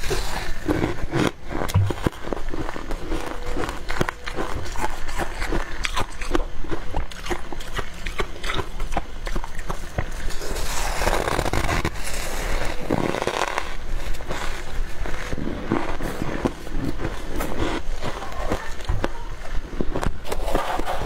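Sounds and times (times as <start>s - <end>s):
frost crunching and crackling: 0.0s - 21.0s.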